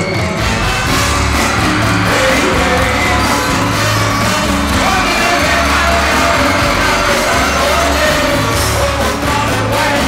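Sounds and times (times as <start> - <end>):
loud dance music with heavy bass: 0.5 - 10.0.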